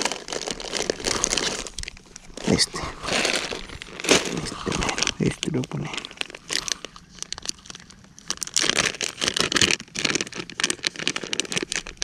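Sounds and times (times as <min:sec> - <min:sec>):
plastic packages crinkling: 0:00.0 - 0:12.0.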